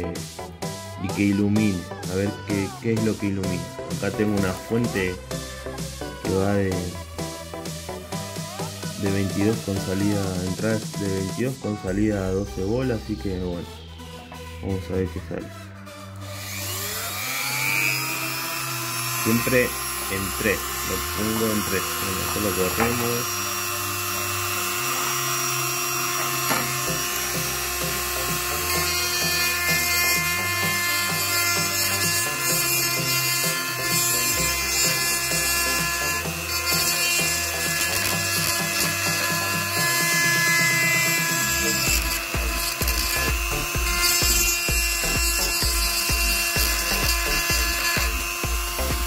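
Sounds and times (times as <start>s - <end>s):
background music: 0.0s - 49.0s
rotary tool grinding acrylic: 1.0s - 7.0s, 7.6s - 11.7s, 15.9s - 49.0s.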